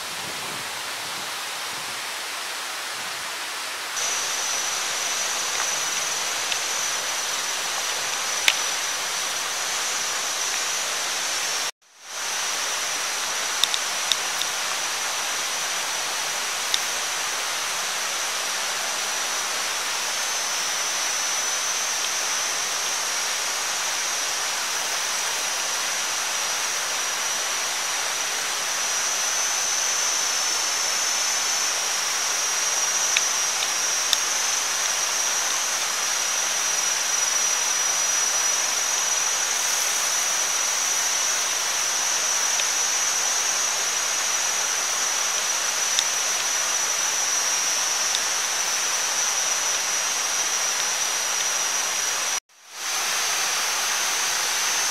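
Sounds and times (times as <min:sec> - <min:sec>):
high-pitched whine: 0:00.0 - 0:54.9.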